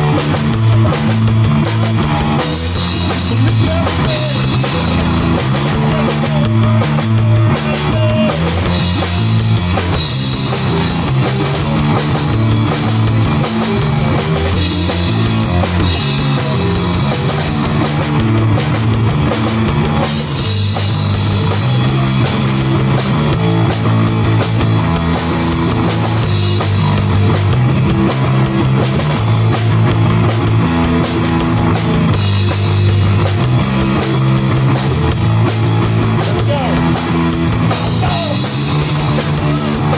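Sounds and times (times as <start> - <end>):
low bass line: 0.0 - 39.9
rock band playing live: 0.0 - 39.9.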